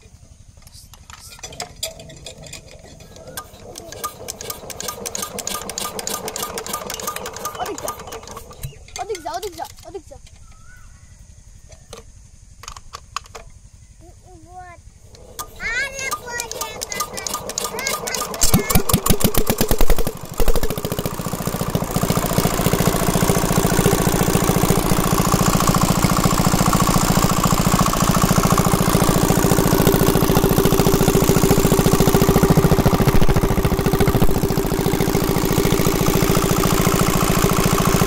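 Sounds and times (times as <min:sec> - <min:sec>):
diesel engine starting and running: 0:01.0 - 0:09.8, 0:15.0 - 0:38.0.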